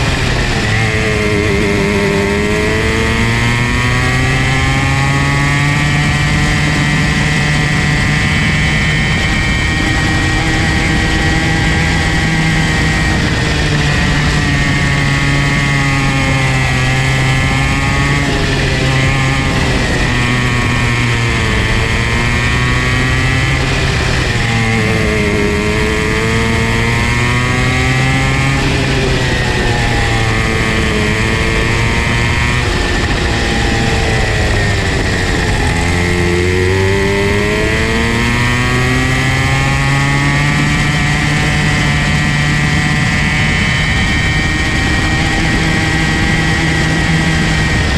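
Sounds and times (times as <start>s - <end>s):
go-kart engine running hard: 0.0s - 47.9s.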